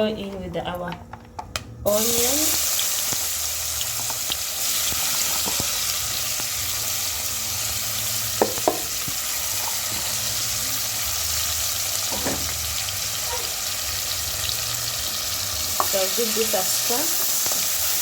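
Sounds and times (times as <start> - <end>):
onions sizzling in oil: 1.9 - 18.0.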